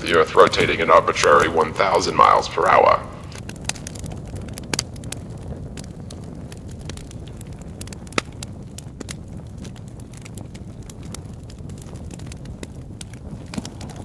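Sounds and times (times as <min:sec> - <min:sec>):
crackles and pops: 0:00.0 - 0:14.0
steady low rumble: 0:00.0 - 0:14.0.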